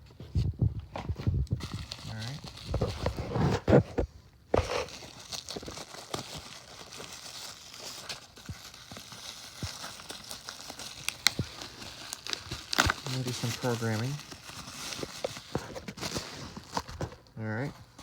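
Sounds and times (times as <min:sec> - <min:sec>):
packaging crinkling and rustling: 0:00.9 - 0:18.0.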